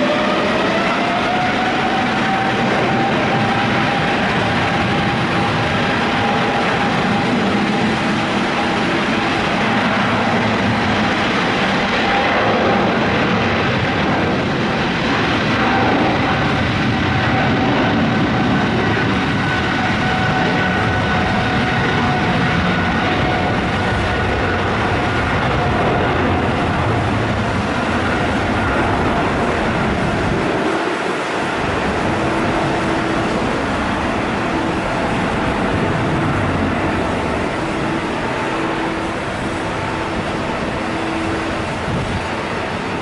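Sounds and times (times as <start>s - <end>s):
engine whine: 0.0s - 43.0s
jet engines at high power: 0.0s - 43.0s.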